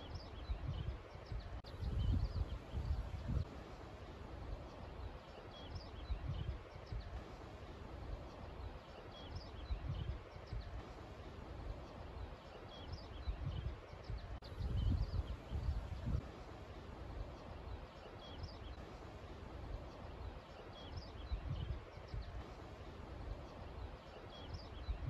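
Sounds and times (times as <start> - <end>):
birds chirping: 0.0 - 25.0
wind rumbling on microphone: 0.0 - 25.0.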